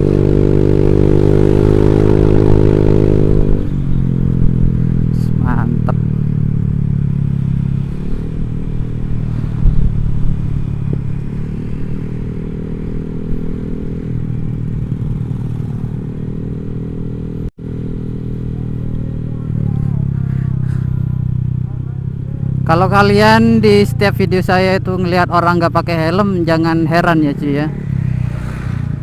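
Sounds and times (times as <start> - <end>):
scooter engine exhaust note: 0.0 - 28.0.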